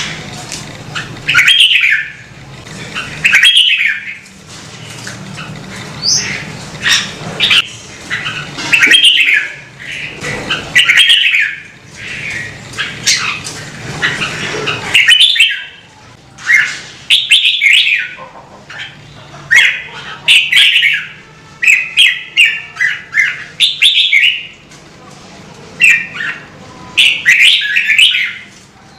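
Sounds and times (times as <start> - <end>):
bird singing loud song phrases: 1.0 - 2.3, 2.9 - 4.2, 6.0 - 24.6, 25.8 - 28.9.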